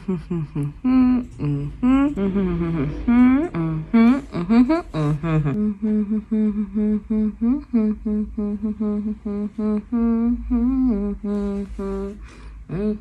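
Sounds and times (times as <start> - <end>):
woman humming: 0.0 - 13.0.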